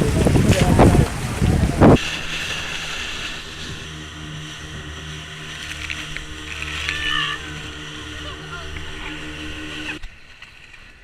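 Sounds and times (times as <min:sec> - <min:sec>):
motorboat engine humming: 0:00.0 - 0:10.0.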